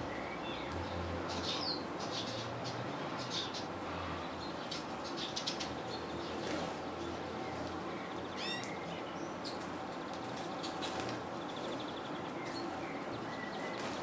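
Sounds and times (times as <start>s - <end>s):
small songbirds calling: 0.0s - 14.0s.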